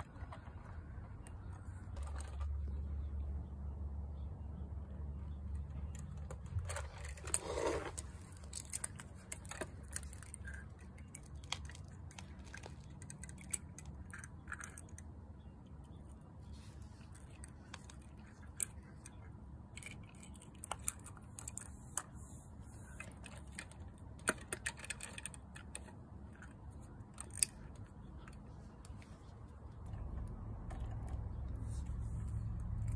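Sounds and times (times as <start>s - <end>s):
low background rumble: 0.0s - 32.9s
toys clicking on concrete: 5.4s - 16.3s, 16.9s - 32.9s.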